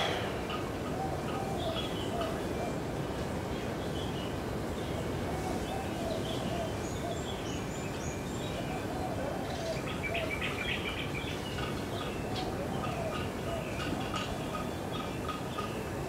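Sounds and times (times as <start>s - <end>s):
low outdoor hiss: 0.0s - 16.0s
small birds chirping: 0.0s - 16.0s.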